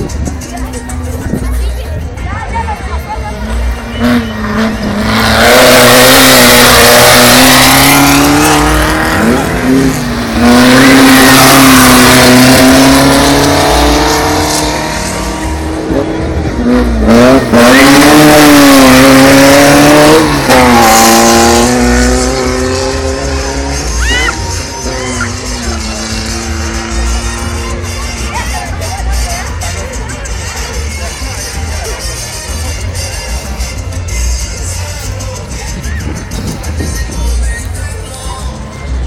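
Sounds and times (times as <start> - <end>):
race car engines revving: 0.0 - 39.0.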